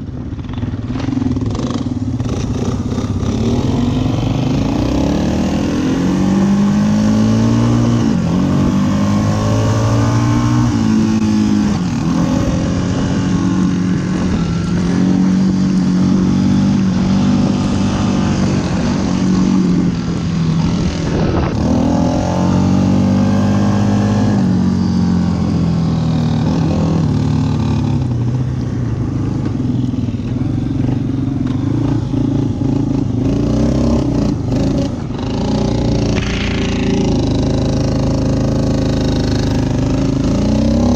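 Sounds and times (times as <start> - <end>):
atv engine revving: 0.1 - 40.9.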